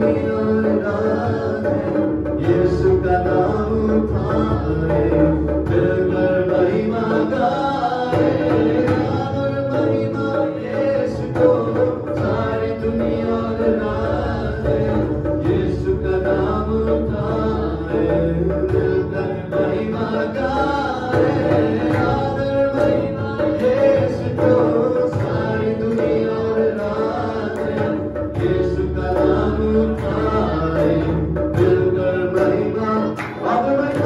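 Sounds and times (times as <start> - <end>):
electronic keyboard: 0.0 - 34.0
man singing through microphone: 0.0 - 34.0.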